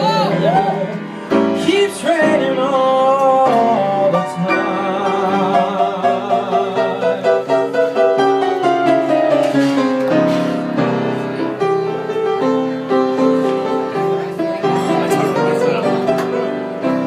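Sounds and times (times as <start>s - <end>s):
solo jazz piano: 0.0s - 17.0s.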